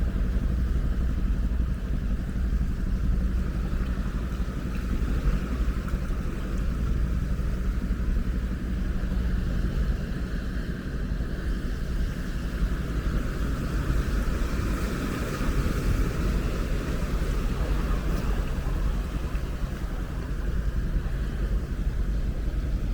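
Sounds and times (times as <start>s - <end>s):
ocean waves surf rumble: 0.0s - 22.9s.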